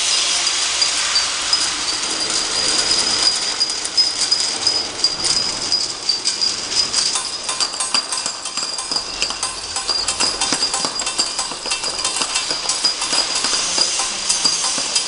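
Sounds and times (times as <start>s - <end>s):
machine whine: 0.0s - 15.0s
glass vials clicking and rattling: 1.6s - 15.0s.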